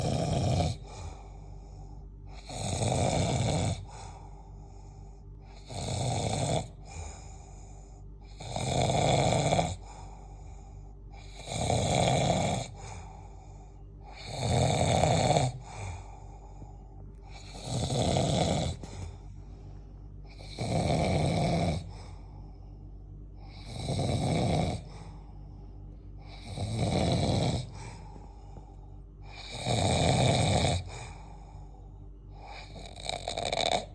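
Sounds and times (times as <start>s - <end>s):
person snoring: 0.0s - 33.9s
quiet breathing: 0.0s - 33.9s.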